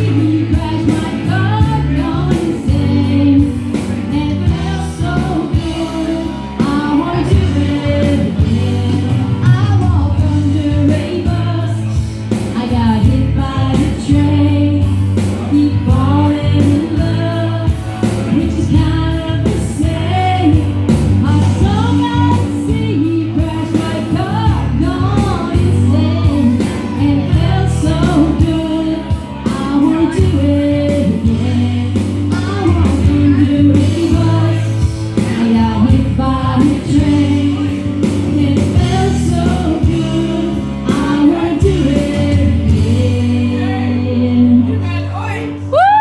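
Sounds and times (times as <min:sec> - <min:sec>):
person singing: 0:00.0 - 0:46.0
pop backing track with beat: 0:00.0 - 0:46.0.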